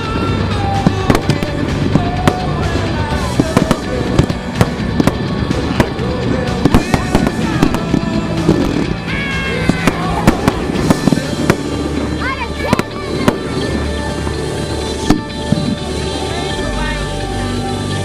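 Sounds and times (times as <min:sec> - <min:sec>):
fireworks bursts and crackling: 0:00.0 - 0:18.0
fireworks rumble: 0:00.0 - 0:18.0
fireworks whistling: 0:00.0 - 0:18.0.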